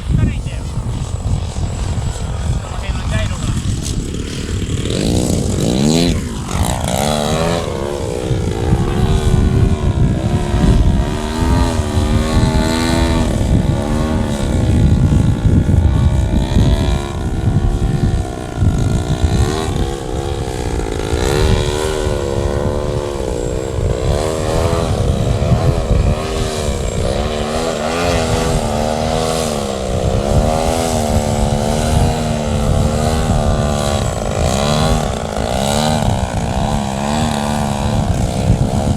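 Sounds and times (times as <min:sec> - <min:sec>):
model airplane motor and propeller: 0:00.0 - 0:38.9.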